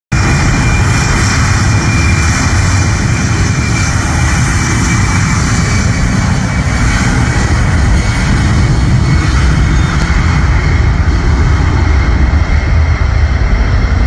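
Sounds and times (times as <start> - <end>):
high jet whine: 0.1 - 14.0
jet engines rumbling: 0.1 - 14.0.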